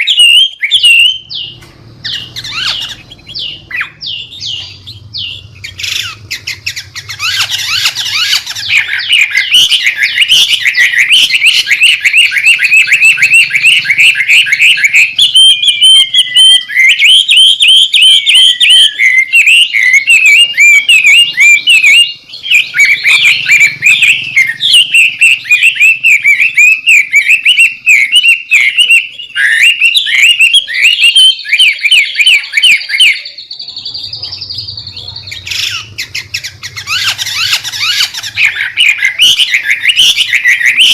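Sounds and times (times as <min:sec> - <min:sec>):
bird singing chattering whistles: 0:00.0 - 0:40.9
high bird trill: 0:00.0 - 0:40.9.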